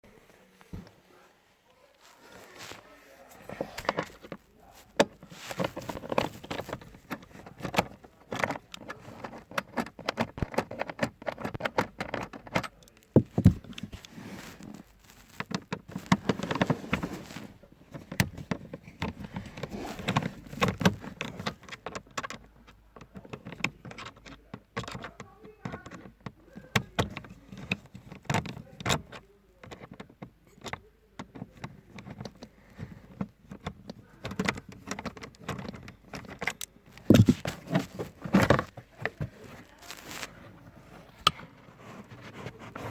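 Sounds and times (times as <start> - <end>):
hands handling car parts: 0.0 - 42.9.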